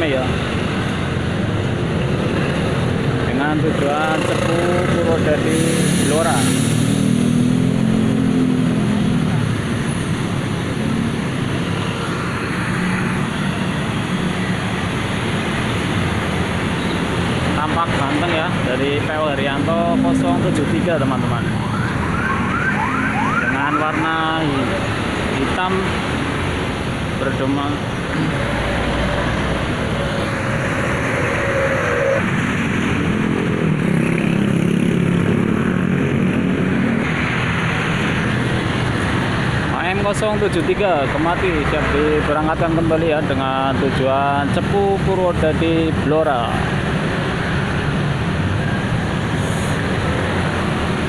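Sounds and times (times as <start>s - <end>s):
bus diesel engine drone: 0.0s - 51.0s
road traffic noise: 0.0s - 51.0s.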